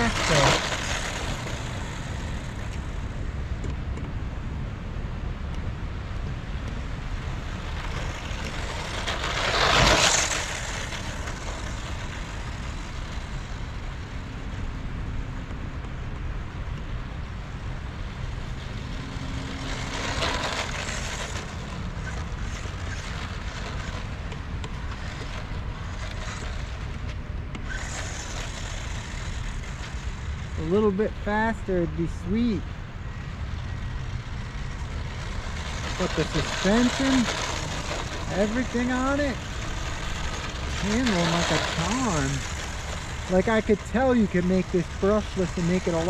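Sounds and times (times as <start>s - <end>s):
rc truck electric motor: 0.0s - 3.3s, 7.2s - 14.7s, 16.6s - 46.0s
wind rumble on microphone: 0.0s - 46.0s.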